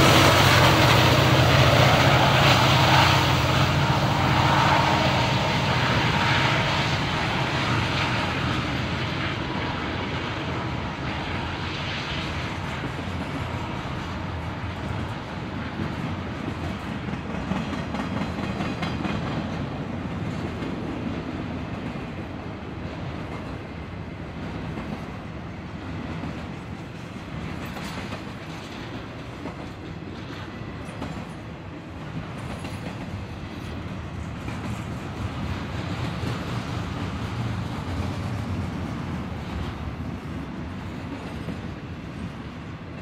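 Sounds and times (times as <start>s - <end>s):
steel wheels rumbling on rails: 0.0s - 43.0s.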